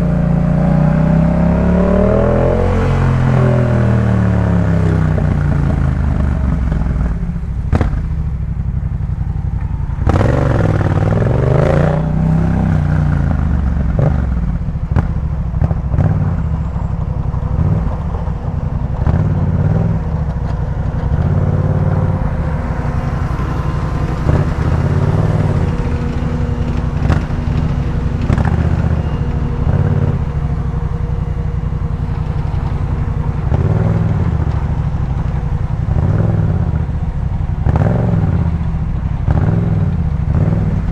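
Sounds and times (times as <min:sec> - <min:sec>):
exhaust cracks: 0:00.0 - 0:40.9
motorcycle engine revving: 0:00.0 - 0:40.9.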